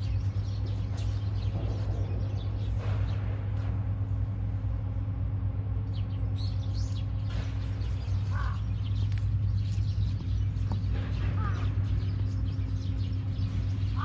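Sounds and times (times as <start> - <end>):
small birds chirping: 0.0 - 4.1, 5.8 - 14.0
steady low rumble: 0.0 - 14.0.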